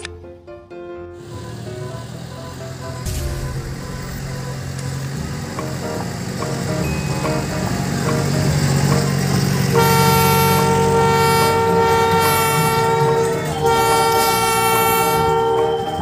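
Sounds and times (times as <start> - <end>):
engine low hum: 1.2 - 16.0
train horn blast: 1.2 - 16.0.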